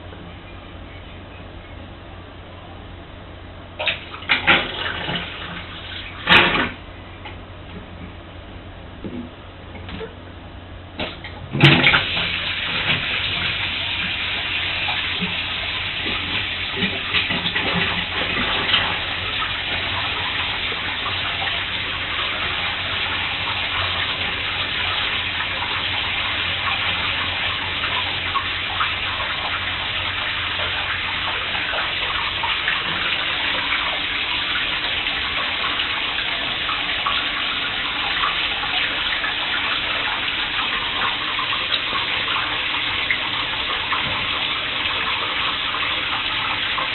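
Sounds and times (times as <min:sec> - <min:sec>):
tap water running into bathtub: 0:03.8 - 0:08.2, 0:11.0 - 0:46.9.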